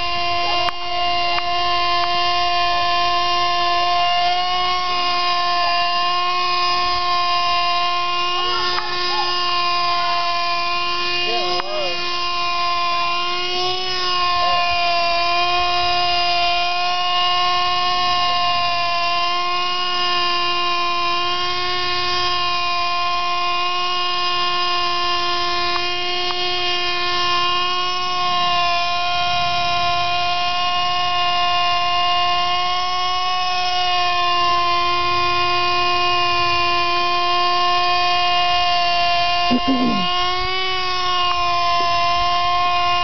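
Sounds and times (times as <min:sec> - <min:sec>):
model helicopter engine whine: 0:00.0 - 0:43.0.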